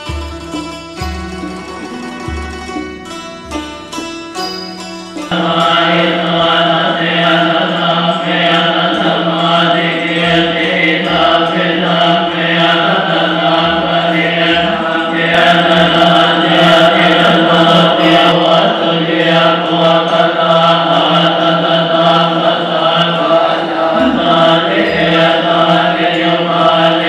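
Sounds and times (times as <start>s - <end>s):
plucked string music: 0.0s - 27.0s
monks chanting in unison: 5.3s - 27.0s.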